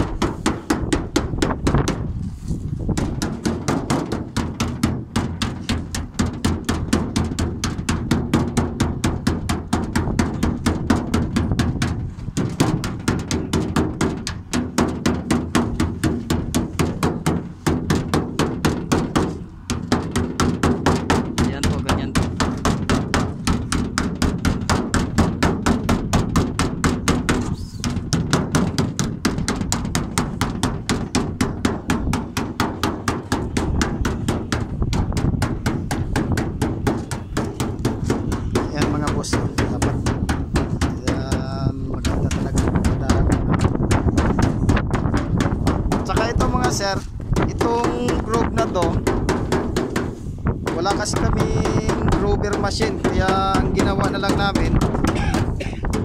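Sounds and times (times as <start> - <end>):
hammer tapping on thin metal sheet: 0.0 - 2.1, 2.9 - 56.0.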